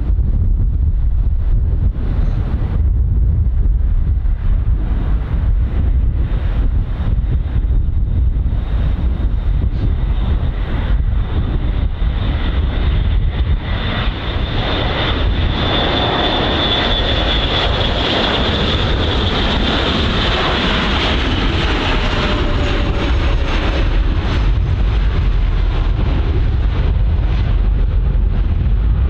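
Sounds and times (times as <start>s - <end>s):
high whine: 0.0s - 29.0s
turboprop aircraft drone: 0.0s - 29.0s.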